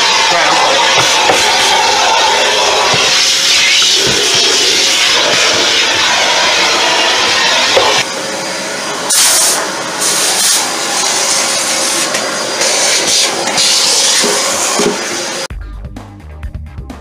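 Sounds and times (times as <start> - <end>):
vacuum nozzle sucking hiss: 0.0 - 8.1, 8.7 - 15.4
vacuum cleaner running: 0.0 - 15.5.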